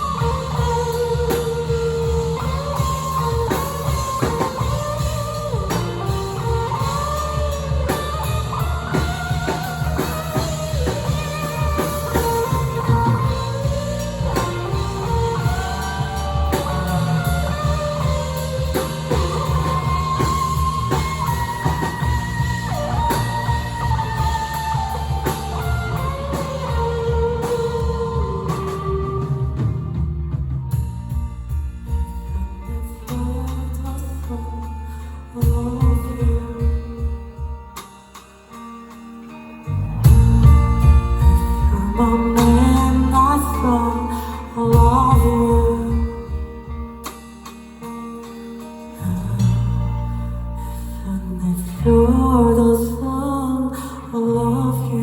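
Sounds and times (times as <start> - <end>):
drum kit: 0.0 - 53.0
bass guitar: 0.0 - 55.0
lead guitar melody: 0.0 - 55.0.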